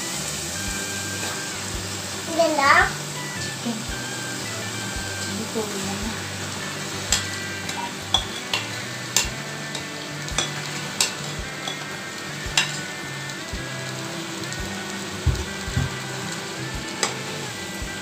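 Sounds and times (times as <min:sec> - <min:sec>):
masala sizzling in a pot: 0:00.0 - 0:18.0.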